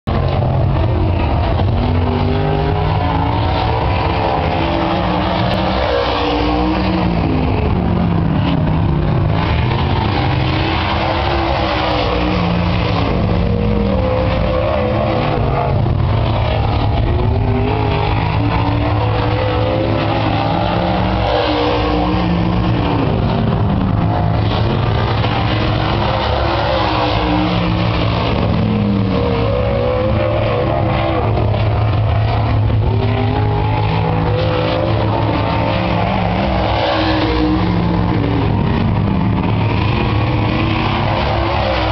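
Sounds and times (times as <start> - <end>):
race car engine running hard: 0.0 - 41.9.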